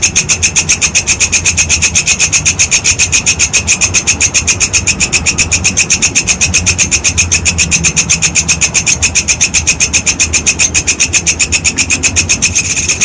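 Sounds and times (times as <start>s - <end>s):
grasshopper clicking: 0.0s - 13.0s.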